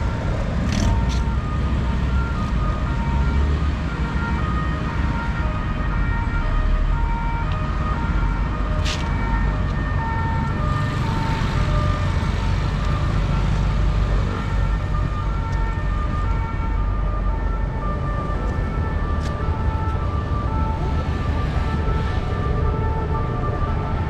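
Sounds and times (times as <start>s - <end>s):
distant two-tone siren: 0.0s - 24.0s
road traffic rumble: 0.0s - 24.0s.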